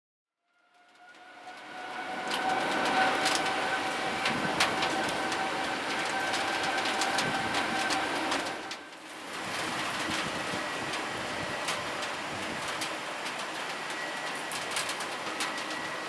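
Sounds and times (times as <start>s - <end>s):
jet engines whining: 1.0s - 16.0s.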